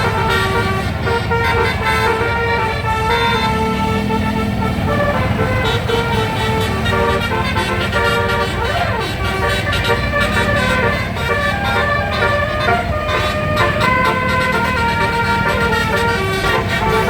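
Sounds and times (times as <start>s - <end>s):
bus horn playing a tune: 0.0s - 17.0s
low engine rumble: 0.0s - 17.0s.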